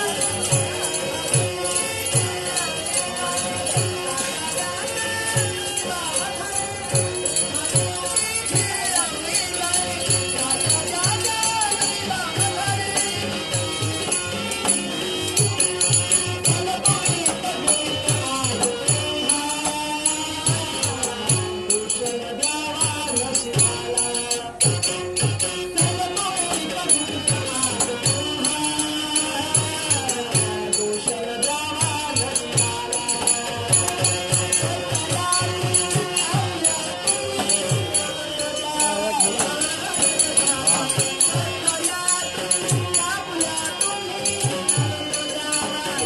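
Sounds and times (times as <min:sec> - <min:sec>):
jingling metal percussion: 0:00.0 - 0:46.0
man singing: 0:00.0 - 0:46.0
steady drum beat: 0:00.0 - 0:46.0.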